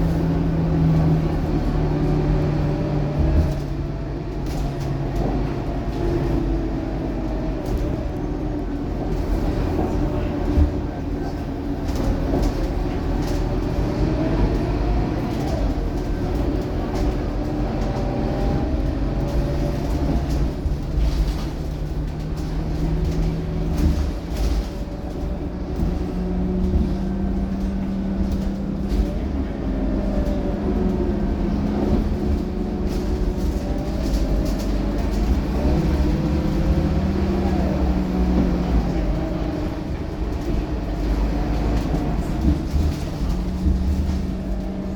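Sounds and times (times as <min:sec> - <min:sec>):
bus diesel engine running: 0:00.0 - 0:44.9.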